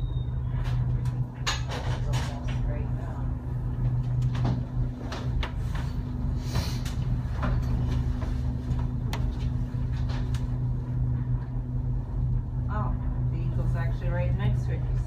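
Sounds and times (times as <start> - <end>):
cable car hum and rumble: 0.0 - 15.0.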